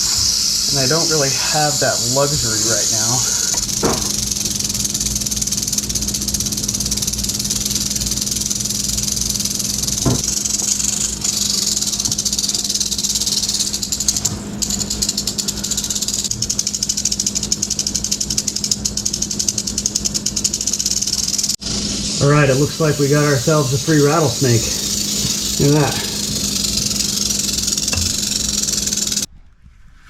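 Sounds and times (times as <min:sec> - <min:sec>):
rattlesnake tail rattling: 0:00.0 - 0:29.3
steady low hum: 0:00.0 - 0:29.3.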